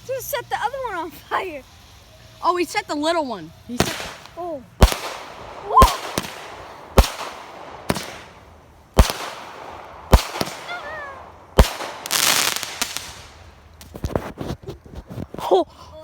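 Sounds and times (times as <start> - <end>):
fireworks crackling: 0.0 - 15.7
fireworks bangs: 0.7 - 15.4.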